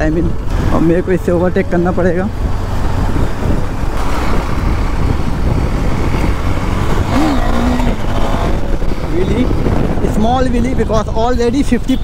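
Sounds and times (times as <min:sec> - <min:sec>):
motorcycle engine: 0:00.0 - 0:12.0
wind rumble on microphone: 0:00.0 - 0:12.0.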